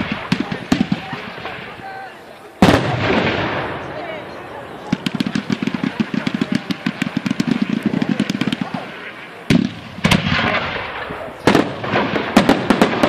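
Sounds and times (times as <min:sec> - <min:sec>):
firework bangs: 0:00.0 - 0:13.0
firework crackling and hiss: 0:00.0 - 0:13.0.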